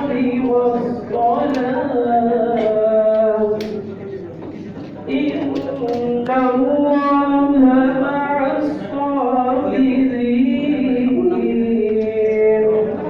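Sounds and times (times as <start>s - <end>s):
man chanting into a microphone: 0.0s - 4.3s, 5.1s - 13.0s.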